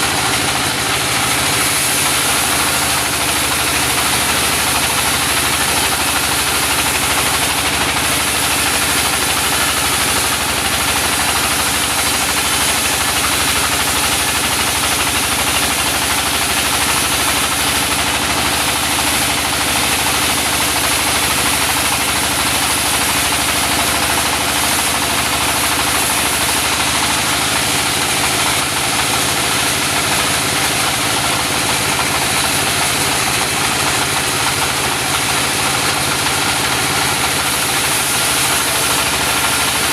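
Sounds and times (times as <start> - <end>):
saw blade cutting log: 0.0 - 39.9
sawmill engine drone: 0.0 - 39.9.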